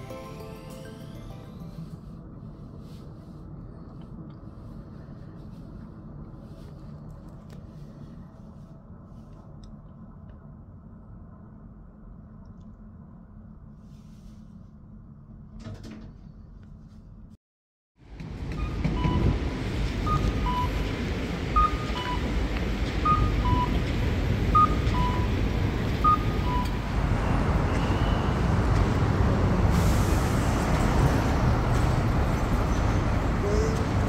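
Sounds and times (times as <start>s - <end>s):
city traffic: 0.0s - 14.5s, 18.0s - 34.0s.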